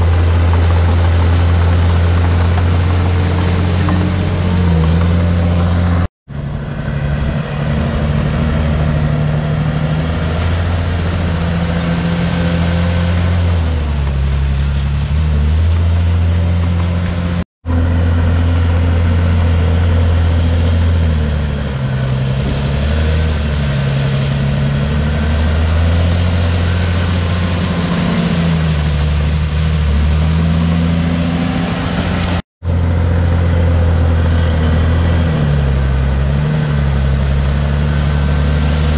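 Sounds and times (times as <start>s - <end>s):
bulldozer diesel engine working: 0.0s - 38.9s.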